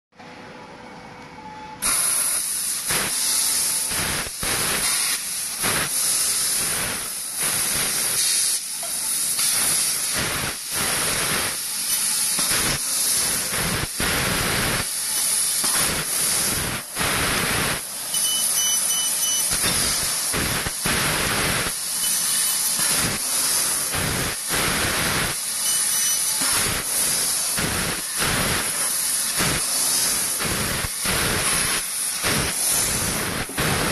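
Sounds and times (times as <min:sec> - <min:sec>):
laser cutter gas jet hissing: 0:01.8 - 0:33.9.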